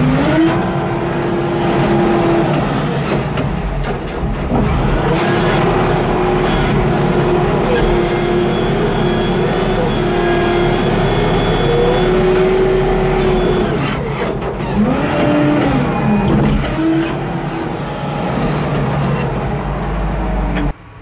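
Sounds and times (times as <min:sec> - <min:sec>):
machine squealing: 0:00.0 - 0:19.7
wheel loader diesel engine: 0:00.0 - 0:21.0.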